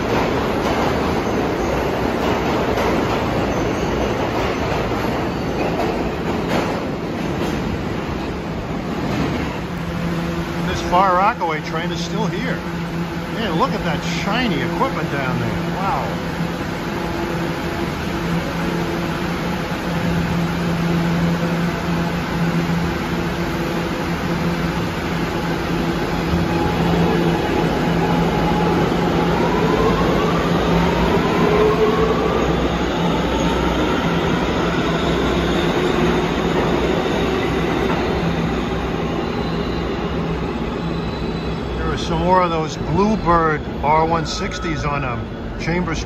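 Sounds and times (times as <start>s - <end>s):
subway train motor whine: 0.0s - 46.0s
train hum: 0.0s - 46.0s
wheels rumbling on rail: 0.0s - 46.0s.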